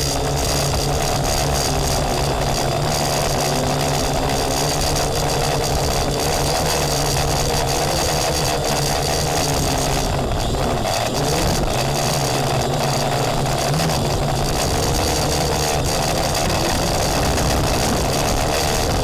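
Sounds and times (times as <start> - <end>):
airframe vibrating: 0.0 - 19.0
quadcopter motors and propellers: 0.0 - 19.0.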